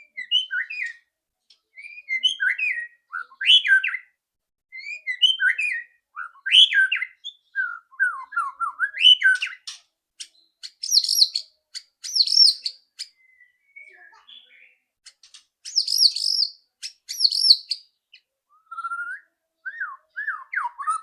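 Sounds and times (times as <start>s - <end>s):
bird whistled song: 0.0s - 1.1s, 1.7s - 14.8s, 15.6s - 21.0s.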